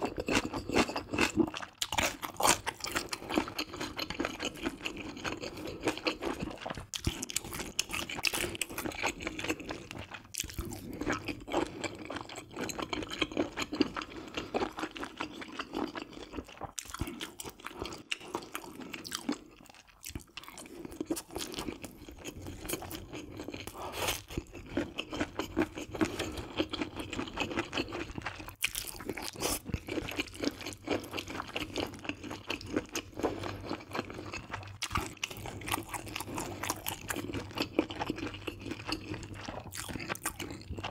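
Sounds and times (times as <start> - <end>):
chewing and crunchy bites: 0.0 - 40.9.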